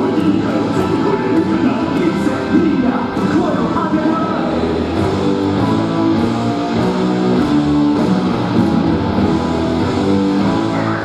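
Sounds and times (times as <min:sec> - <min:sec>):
guitar music over loudspeakers: 0:00.0 - 0:11.0.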